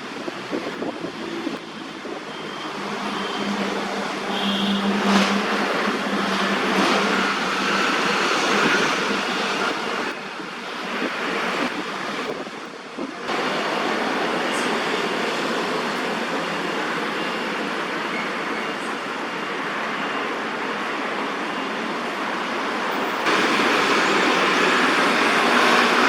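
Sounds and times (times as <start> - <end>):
distant road traffic hiss: 0.0 - 26.0.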